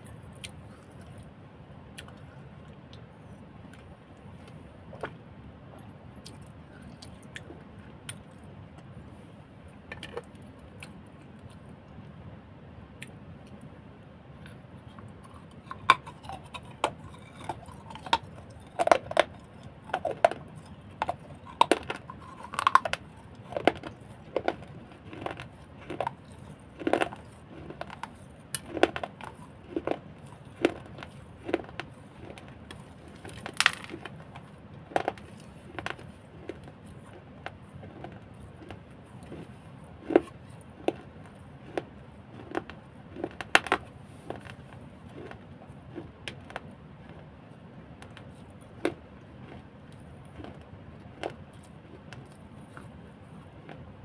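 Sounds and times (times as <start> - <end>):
crunchy food eating: 0.0 - 12.2, 14.3 - 54.0.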